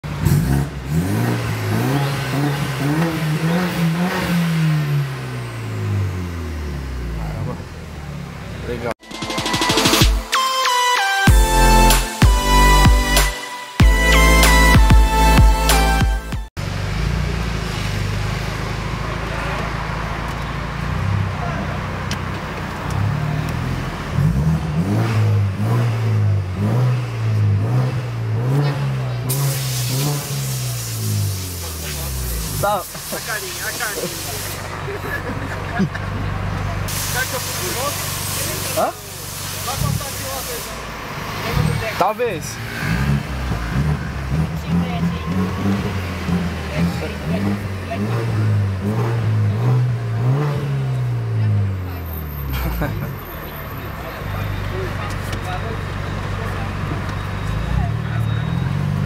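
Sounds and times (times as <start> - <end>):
car engine accelerating: 0.0 - 10.0, 11.3 - 59.0.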